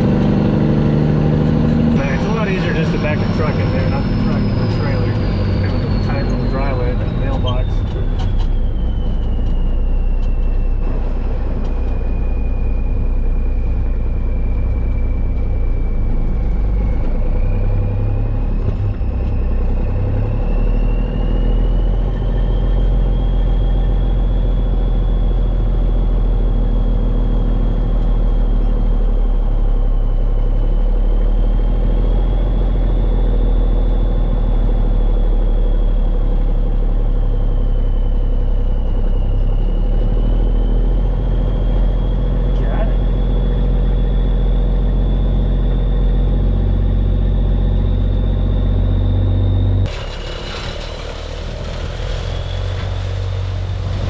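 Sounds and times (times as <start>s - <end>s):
thin whine: 0.0s - 54.0s
truck engine low rumble: 0.0s - 54.0s.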